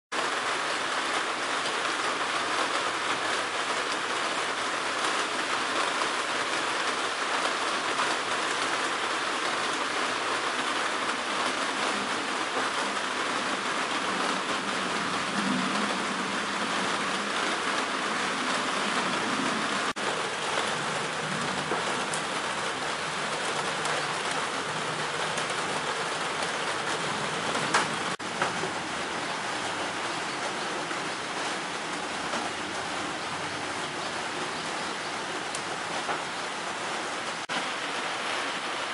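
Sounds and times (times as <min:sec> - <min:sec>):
light rain falling: 0:00.1 - 0:38.9.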